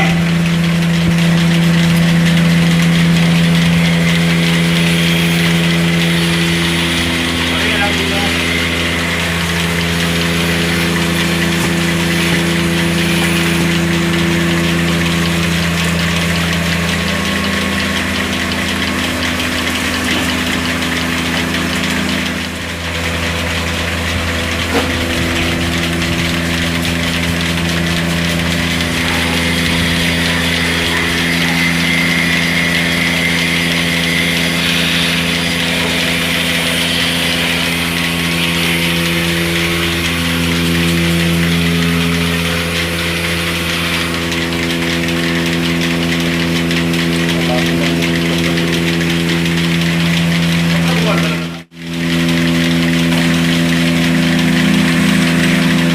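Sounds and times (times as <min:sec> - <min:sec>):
motor humming: 0:00.0 - 0:55.9.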